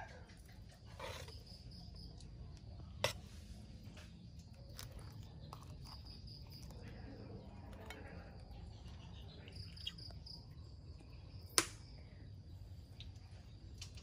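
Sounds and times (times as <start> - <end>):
crickets chirping: 0.0 - 13.9.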